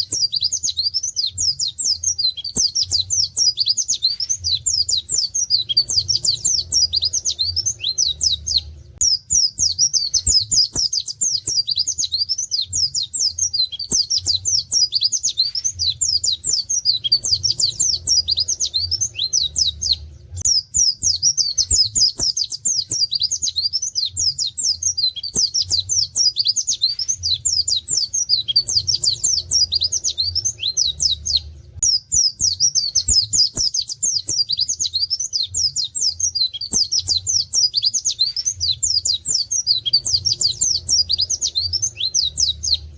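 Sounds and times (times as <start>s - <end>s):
bird twittering song: 0.0s - 42.9s.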